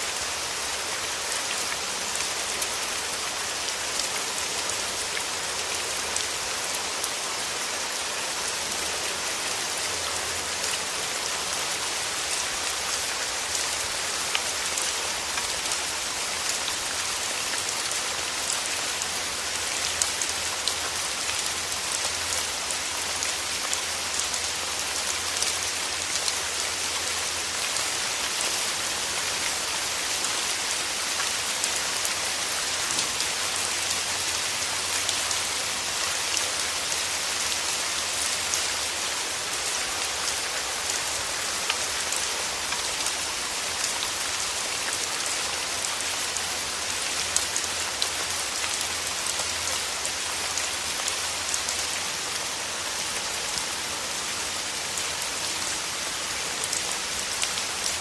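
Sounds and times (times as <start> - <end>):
rain falling on a surface: 0.0 - 58.0.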